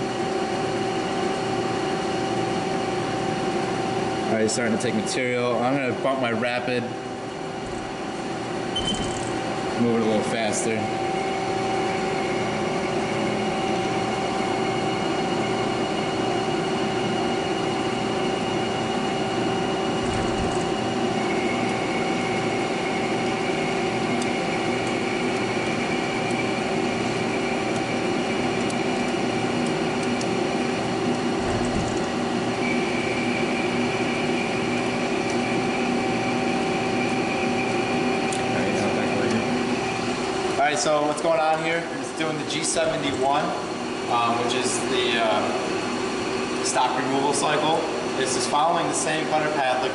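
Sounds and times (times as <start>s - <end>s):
high machine whine: 0.0s - 49.9s
lathe running: 0.0s - 49.9s.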